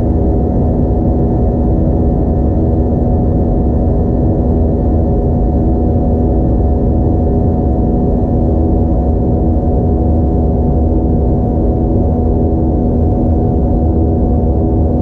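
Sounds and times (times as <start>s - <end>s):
jet engine drone in cabin: 0.0s - 15.0s.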